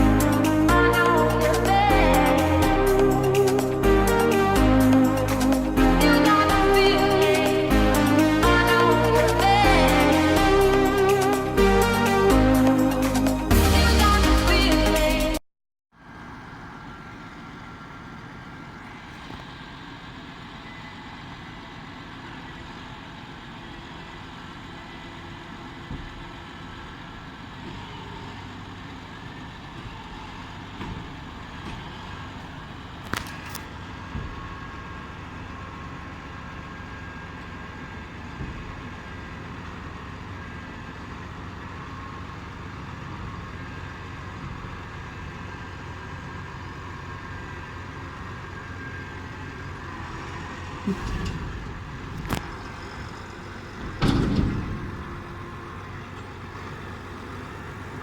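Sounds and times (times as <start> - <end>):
tractor engine running: 0.0 - 15.4, 16.0 - 58.0.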